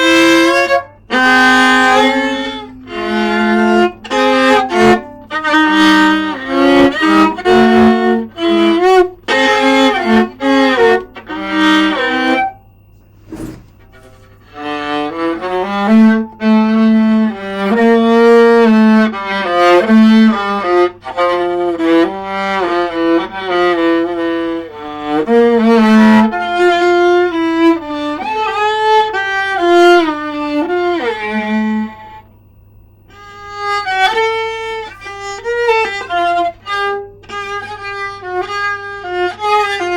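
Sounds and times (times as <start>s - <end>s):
solo viola playing melody: 0.0s - 32.4s, 33.1s - 39.9s.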